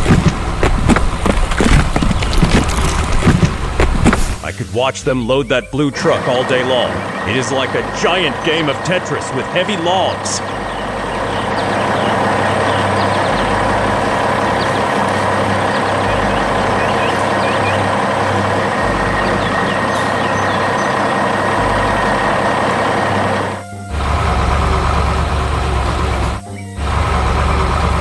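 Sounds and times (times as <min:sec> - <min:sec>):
heavy machinery engines running: 0:00.0 - 0:28.0
background music: 0:02.5 - 0:28.0.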